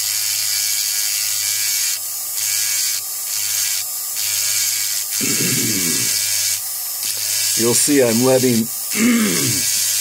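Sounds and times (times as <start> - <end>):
rotary tool grinding stone: 0.0 - 10.0.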